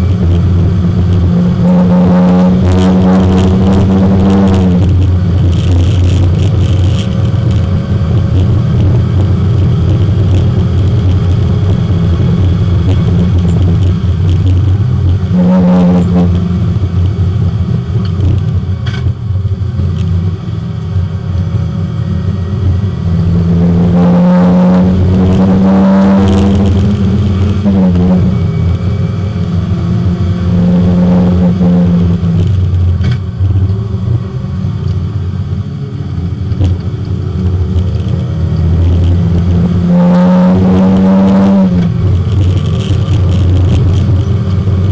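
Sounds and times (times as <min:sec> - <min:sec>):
race car engine accelerating: 0:00.0 - 0:44.9.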